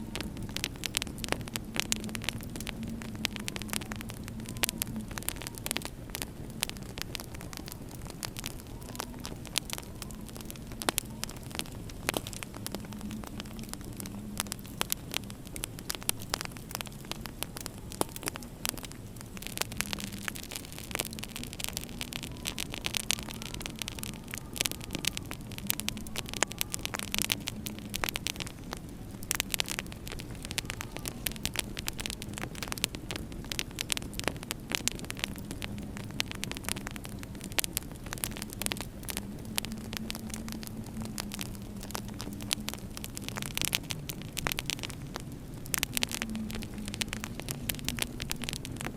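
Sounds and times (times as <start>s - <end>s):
small sharp pops of fire: 0.0s - 48.9s
wood fire crackling: 0.0s - 48.9s.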